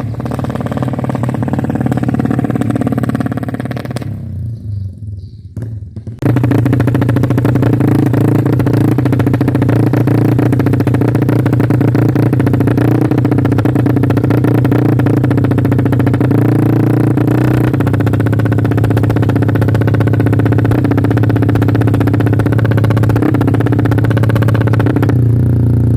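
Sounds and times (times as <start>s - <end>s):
motorcycle engine running loudly: 0.0s - 25.9s.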